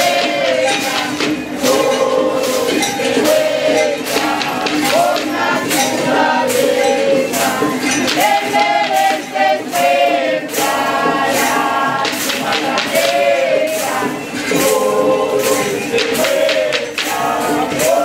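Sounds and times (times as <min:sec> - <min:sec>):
group of voices singing: 0:00.0 - 0:18.0
percussion beat: 0:00.0 - 0:18.0.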